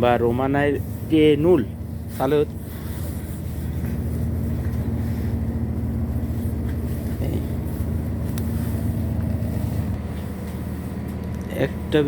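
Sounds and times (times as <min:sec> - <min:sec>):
train engine and running gear drone: 0:00.0 - 0:12.0.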